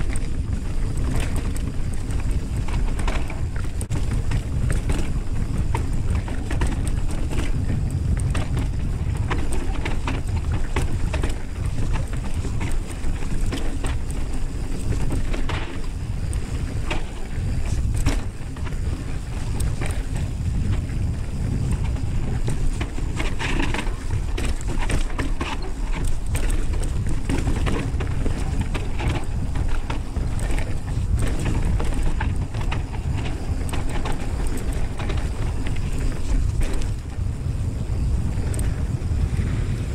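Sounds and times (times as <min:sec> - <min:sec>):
bike rattling over bumps: 0:00.0 - 0:39.9
tyres crunching over dirt and rock: 0:00.0 - 0:39.9
wind rush on microphone: 0:00.0 - 0:39.9.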